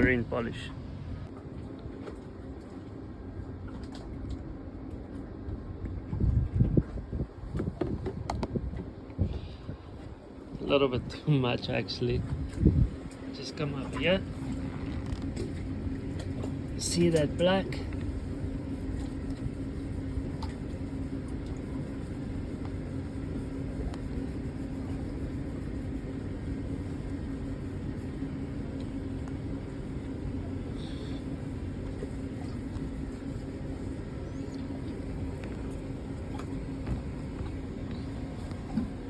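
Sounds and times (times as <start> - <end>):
low machine hum: 0.0 - 39.0.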